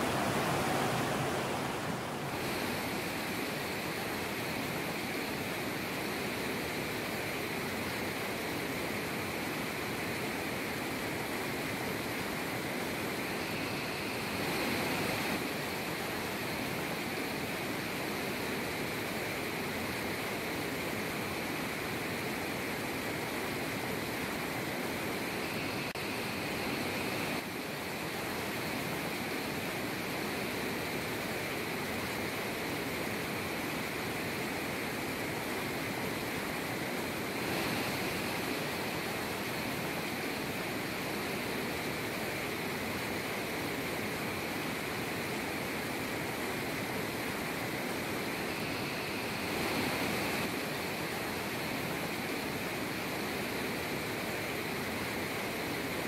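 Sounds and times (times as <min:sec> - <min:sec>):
mountain stream rushing over boulders: 0:00.0 - 0:56.0.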